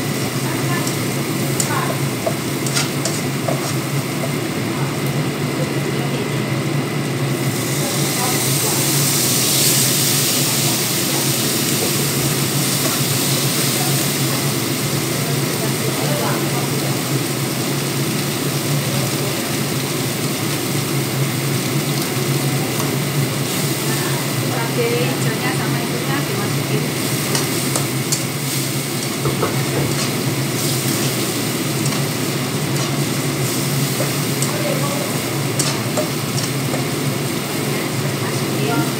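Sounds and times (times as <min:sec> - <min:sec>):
exhaust fan running: 0:00.0 - 0:38.9
food frying in oil: 0:00.0 - 0:38.9.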